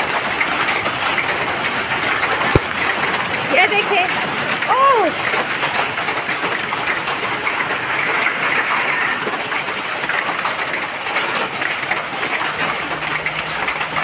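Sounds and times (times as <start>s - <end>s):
hailstones hitting the ground: 0.0s - 14.0s.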